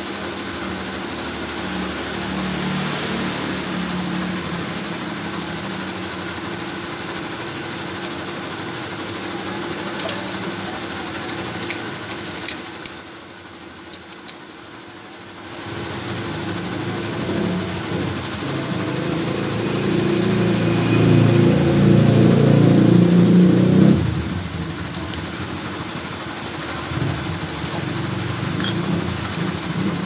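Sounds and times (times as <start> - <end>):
machine humming: 1.0 - 14.5, 15.2 - 30.0.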